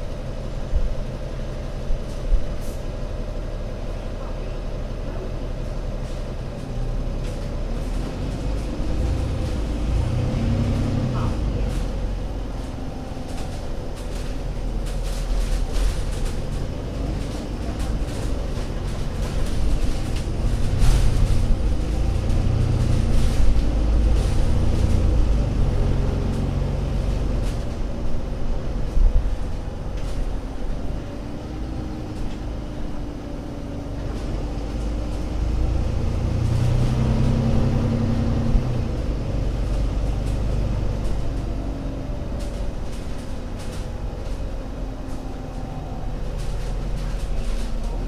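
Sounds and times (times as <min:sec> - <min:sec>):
bus engine rumbling: 0:00.0 - 0:48.0.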